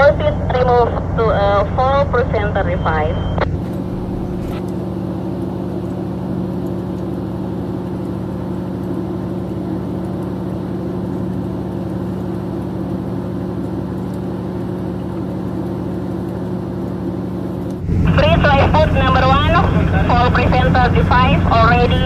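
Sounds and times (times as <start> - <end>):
low machinery drone: 0.0 - 22.0.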